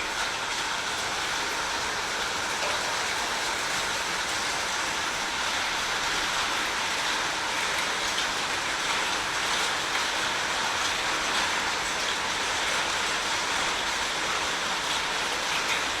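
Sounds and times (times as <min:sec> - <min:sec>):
rushing water: 0:00.0 - 0:16.0.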